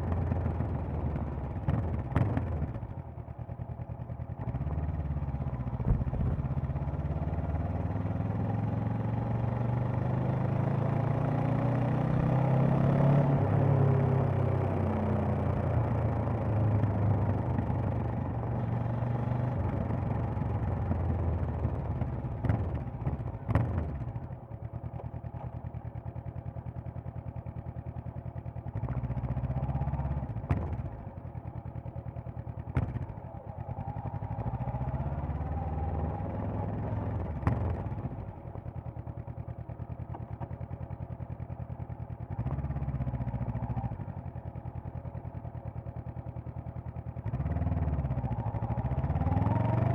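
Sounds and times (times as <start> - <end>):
motorcycle engine revving and idling: 0.0 - 49.9.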